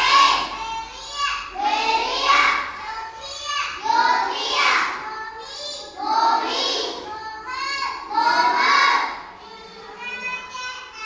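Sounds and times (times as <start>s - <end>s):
children chanting in unison: 0.0s - 11.0s.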